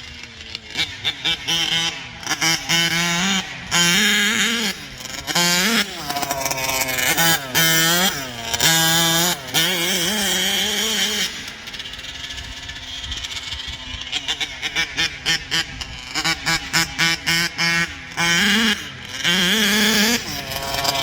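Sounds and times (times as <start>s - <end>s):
model car gas engine revving: 0.0s - 21.0s.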